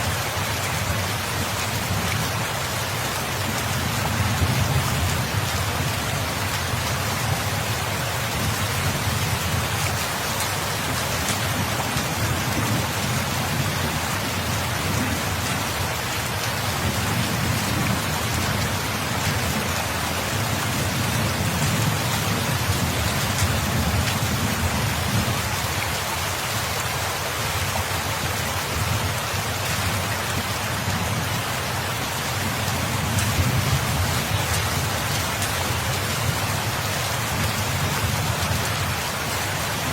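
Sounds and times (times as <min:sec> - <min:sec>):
dense rain hissing: 0:00.0 - 0:39.9.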